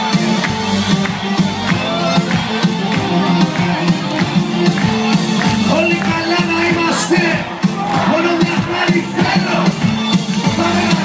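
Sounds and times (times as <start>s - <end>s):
loud pop music with steady beat: 0.0s - 11.0s.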